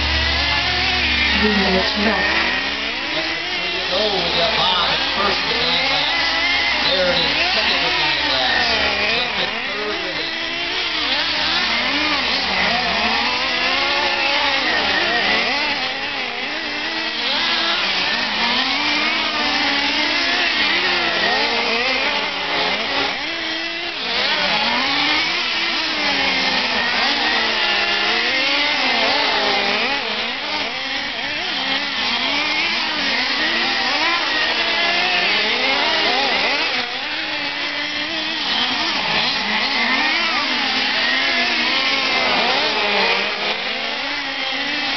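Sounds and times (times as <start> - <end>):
rc truck engines revving: 0.0 - 44.9.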